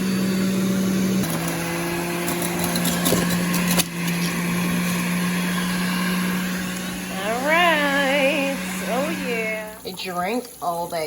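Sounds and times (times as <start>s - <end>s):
juicer motor humming: 0.0s - 9.9s.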